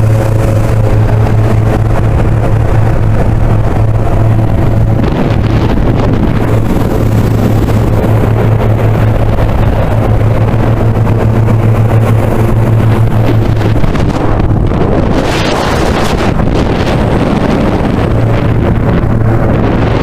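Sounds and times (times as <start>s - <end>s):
boat engine running: 0.0s - 20.0s
rushing water: 0.0s - 20.0s
wind: 0.0s - 20.0s.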